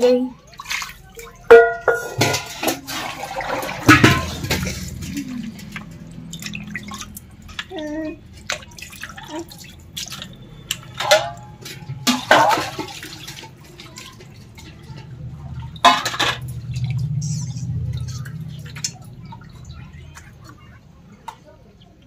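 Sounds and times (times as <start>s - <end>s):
water splashing and dripping: 0.0s - 22.0s.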